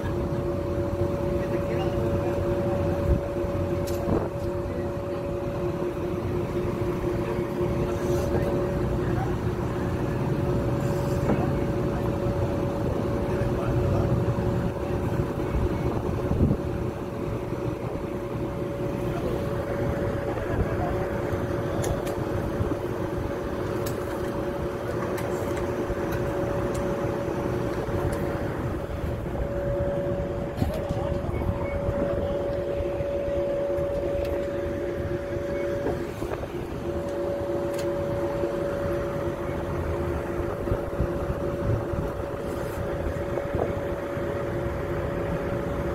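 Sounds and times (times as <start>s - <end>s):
coach engine idling: 0.0s - 45.9s.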